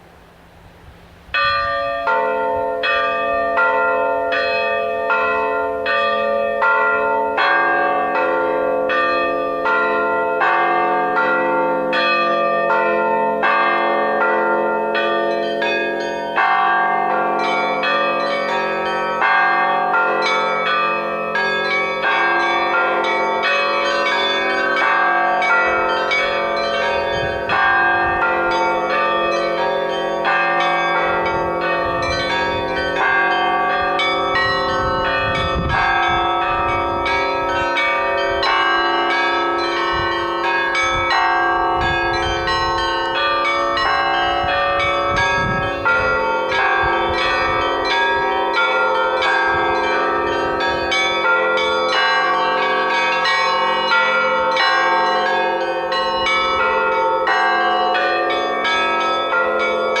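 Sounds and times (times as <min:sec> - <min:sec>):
church bells pealing: 0:01.1 - 1:00.0.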